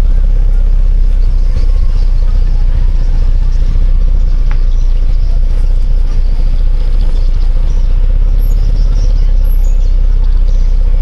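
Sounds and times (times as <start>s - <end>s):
low rumble of vehicle noise: 0.0s - 11.0s.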